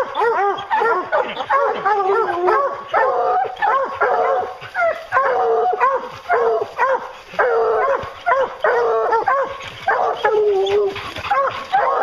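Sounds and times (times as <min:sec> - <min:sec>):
hounds baying and barking: 0:00.0 - 0:12.0.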